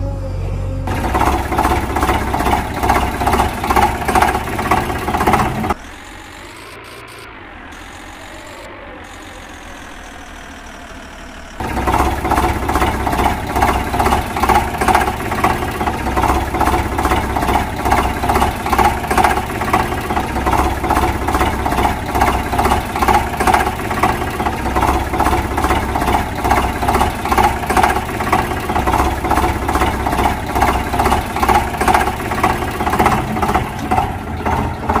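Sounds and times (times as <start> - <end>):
engine idling chug: 0.8 - 35.0.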